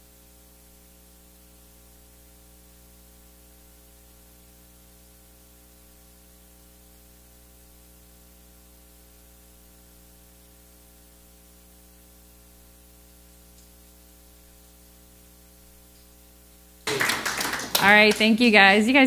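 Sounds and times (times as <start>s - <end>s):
electrical mains hum with hiss: 0.0s - 19.0s.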